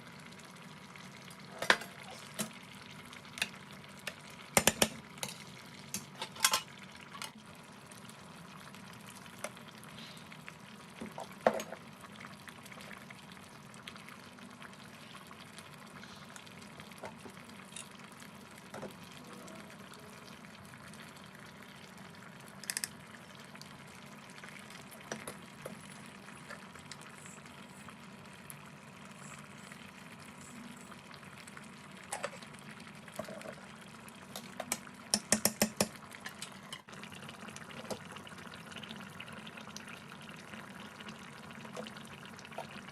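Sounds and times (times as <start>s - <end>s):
pot bubbling with low hiss: 0.0s - 42.9s.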